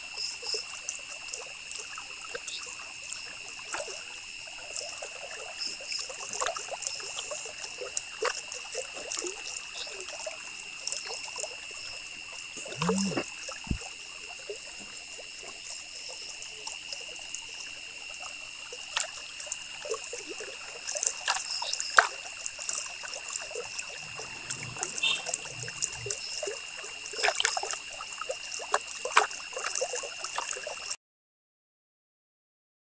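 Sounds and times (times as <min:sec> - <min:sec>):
high-pitched background hiss: 0:00.0 - 0:30.8.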